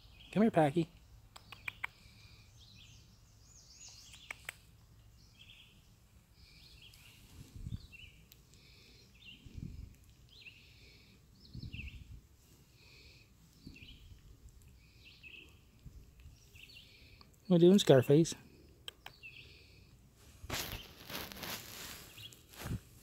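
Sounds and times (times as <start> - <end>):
birds chirping: 0.0 - 22.6.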